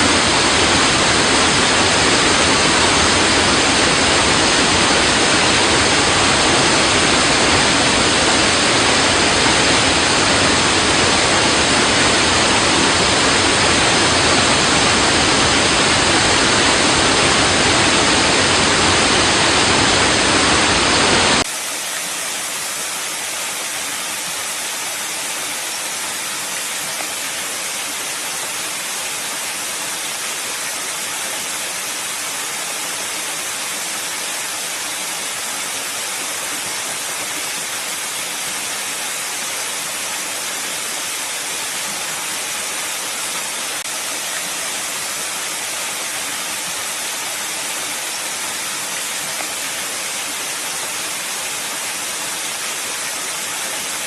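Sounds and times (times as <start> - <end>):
water rushing against rocks: 0.0 - 54.0.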